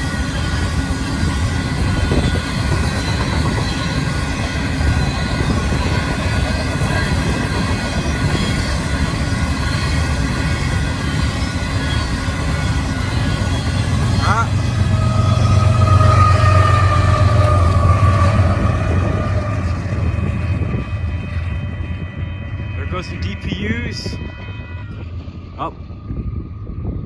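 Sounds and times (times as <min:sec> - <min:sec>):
freight cars rumbling on rails: 0:00.0 - 0:27.0.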